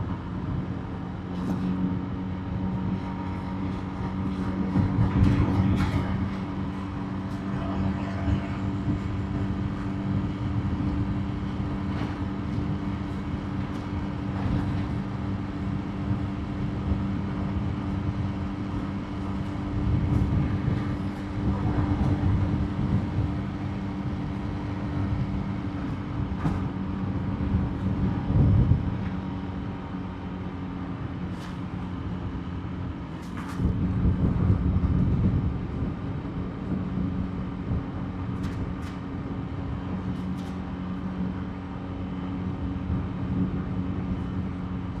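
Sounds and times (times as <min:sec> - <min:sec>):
wind and road noise rumble: 0:00.0 - 0:45.0.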